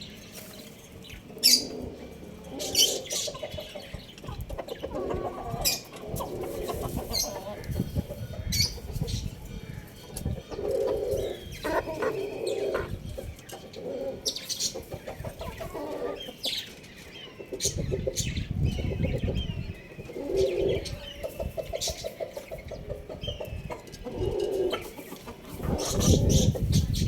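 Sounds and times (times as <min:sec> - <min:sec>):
chickens clucking: 0:00.0 - 0:27.0
small birds chirping: 0:00.0 - 0:27.0.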